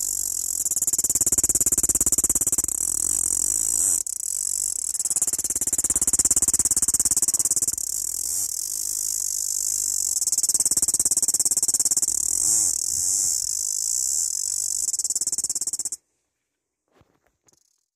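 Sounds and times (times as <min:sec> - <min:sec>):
cicada buzzing: 0:00.0 - 0:16.0.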